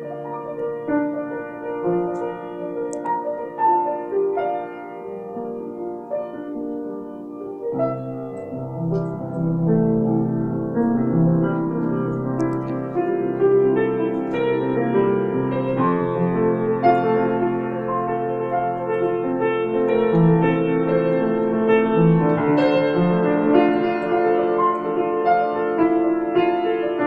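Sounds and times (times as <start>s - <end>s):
grand piano improvisation: 0.0s - 27.0s.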